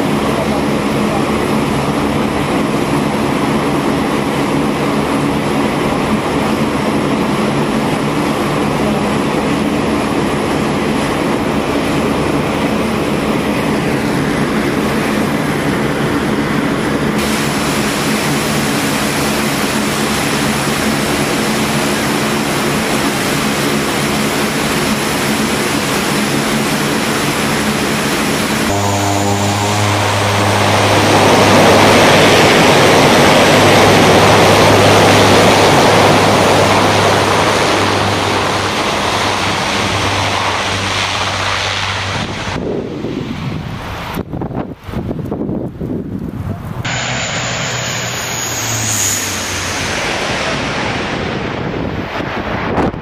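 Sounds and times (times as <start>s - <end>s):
turboprop engines droning: 0.0s - 53.0s.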